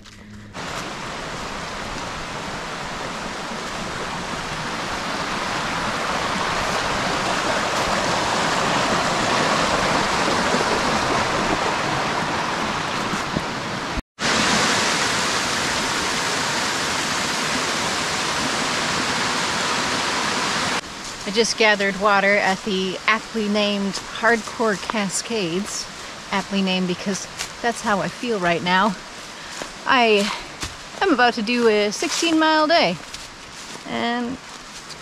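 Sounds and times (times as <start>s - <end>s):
creek water rushing over rocks: 0.6s - 33.8s.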